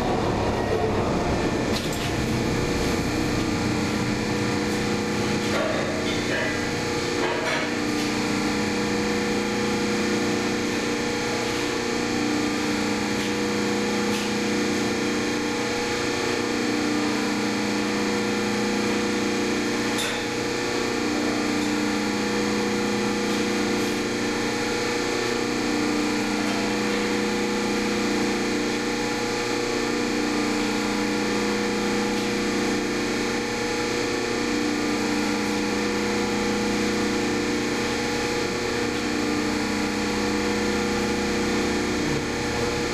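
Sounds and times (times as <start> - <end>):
hydraulic pump motor humming: 0.0 - 42.9.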